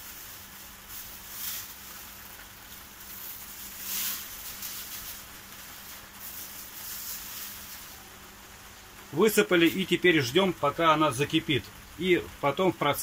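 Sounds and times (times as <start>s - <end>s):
plastic bag rustling: 0.0s - 11.5s
steady hiss: 0.0s - 13.0s.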